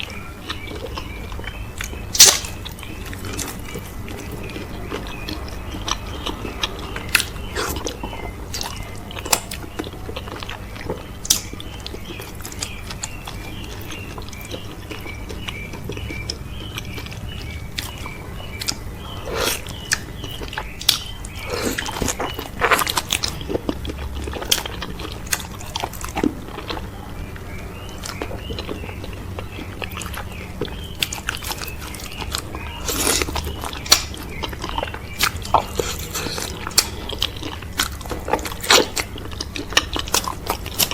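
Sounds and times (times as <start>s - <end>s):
close chewing and mouth smacks: 0.0s - 40.9s.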